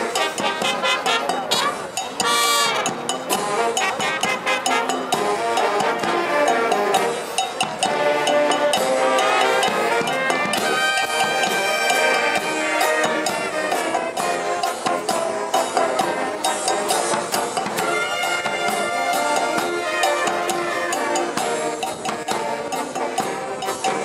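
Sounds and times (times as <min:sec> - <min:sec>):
marching band horns playing: 0:00.0 - 0:24.0
steady drum beat: 0:00.0 - 0:24.0.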